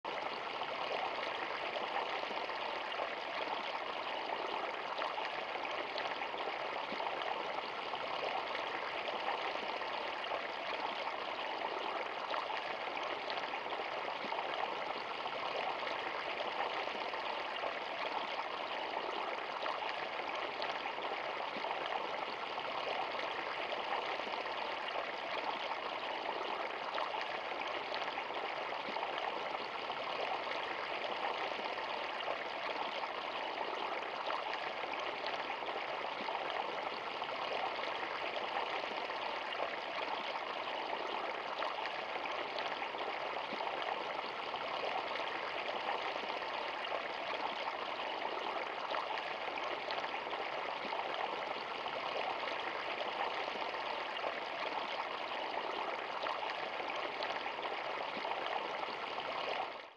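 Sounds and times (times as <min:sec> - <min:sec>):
stream running over stones: 0:00.3 - 0:59.8.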